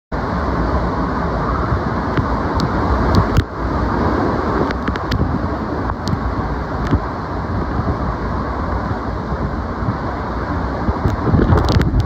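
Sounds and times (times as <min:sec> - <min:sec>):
driven rain: 0:00.2 - 0:12.0
strong wind buffeting microphone: 0:00.2 - 0:12.0.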